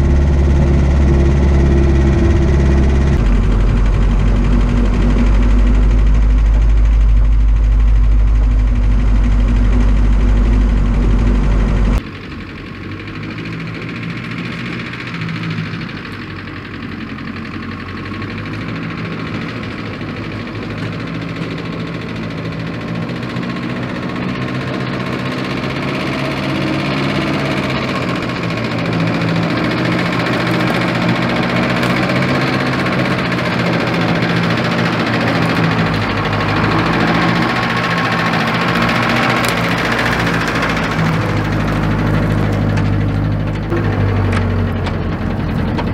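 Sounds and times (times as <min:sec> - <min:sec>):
car engine running at low speed: 0:00.0 - 0:45.9.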